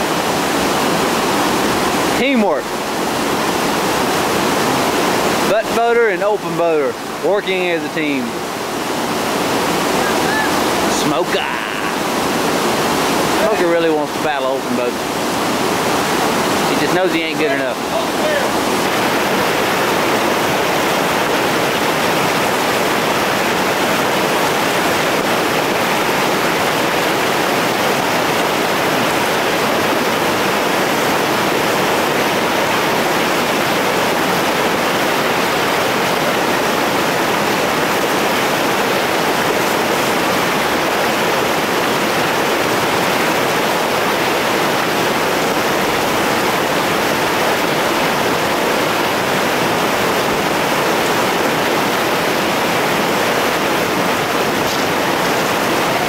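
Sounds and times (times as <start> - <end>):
whitewater rushing over rocks: 0.0 - 56.0.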